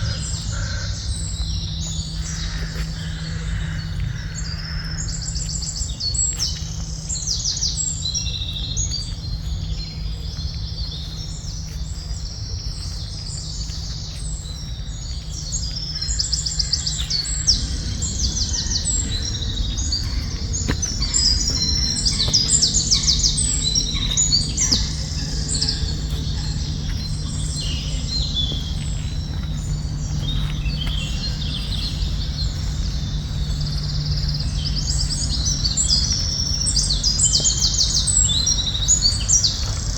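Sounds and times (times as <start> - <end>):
forest birds chirping and trilling: 0.0 - 39.9
steady low hum: 0.0 - 39.9.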